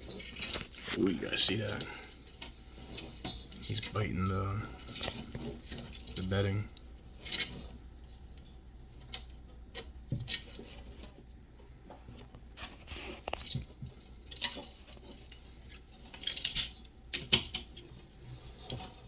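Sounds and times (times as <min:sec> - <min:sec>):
animals scraping and rustling: 0:00.0 - 0:19.0.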